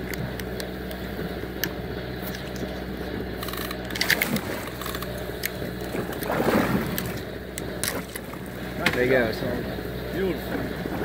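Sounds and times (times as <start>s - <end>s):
fish thrashing and water splashing: 0.0s - 11.0s
steady machine hum: 0.0s - 11.0s.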